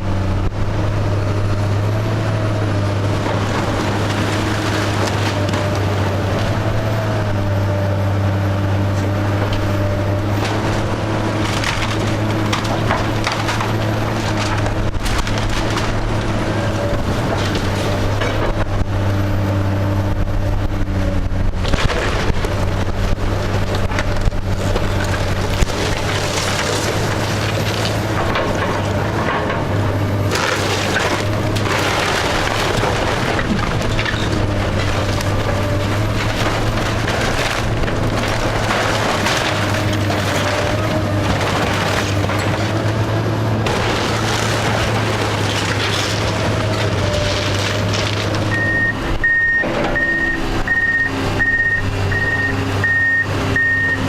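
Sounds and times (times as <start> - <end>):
heavy machine engine running: 0.0 - 54.0
wood splintering and cracking: 0.2 - 50.5
debris crashing down: 2.4 - 7.3, 9.0 - 19.0, 21.3 - 50.4.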